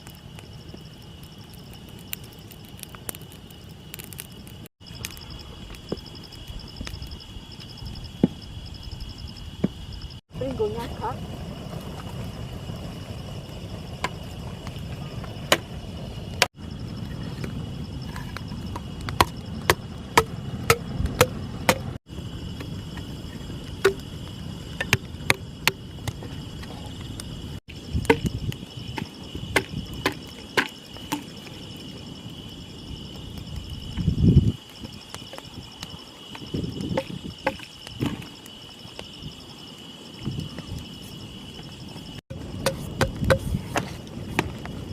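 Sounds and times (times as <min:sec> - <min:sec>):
crickets chirring: 0:00.0 - 0:44.9
wind rumble on microphone: 0:04.4 - 0:30.4, 0:31.6 - 0:38.3, 0:40.1 - 0:44.9.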